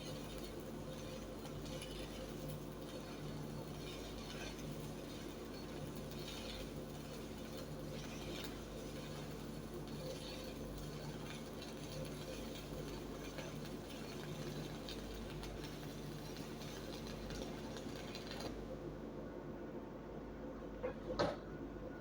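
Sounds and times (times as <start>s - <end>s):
welding arc crackling: 0.0s - 19.0s
welding machine hum: 0.0s - 19.4s.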